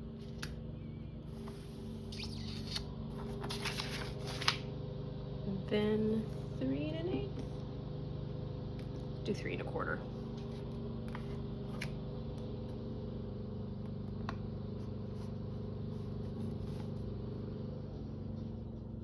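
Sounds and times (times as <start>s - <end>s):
vehicle engine running: 3.0s - 19.0s.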